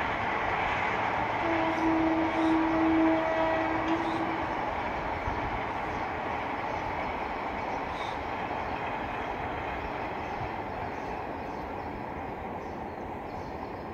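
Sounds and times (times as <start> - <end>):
distant train wheels on rails: 0.0 - 13.9.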